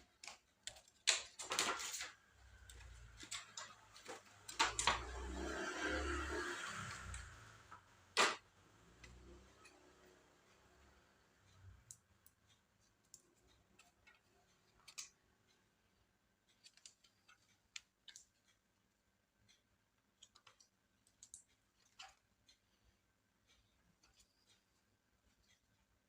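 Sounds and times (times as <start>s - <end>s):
small clicks and taps of handling parts: 0.0s - 5.3s, 7.2s - 15.6s, 16.4s - 26.0s.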